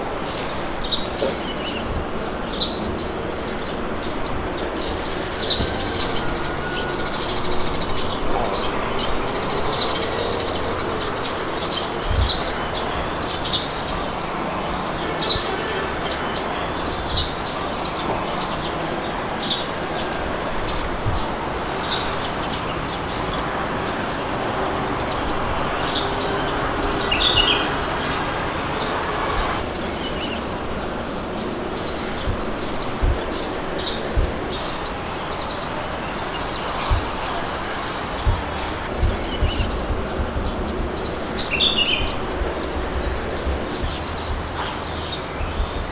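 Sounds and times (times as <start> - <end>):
small birds chirping: 0.0 - 45.9
steady wind: 0.0 - 45.9.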